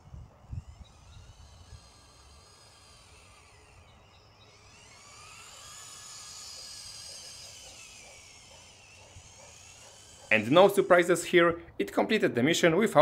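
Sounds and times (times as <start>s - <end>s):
toy tank motors whining: 0.0s - 11.4s.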